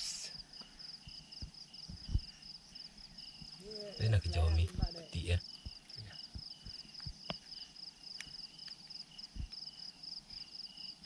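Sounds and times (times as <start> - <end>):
insects trilling chorus: 0.0 - 11.0
lower insect chirp: 0.0 - 11.0.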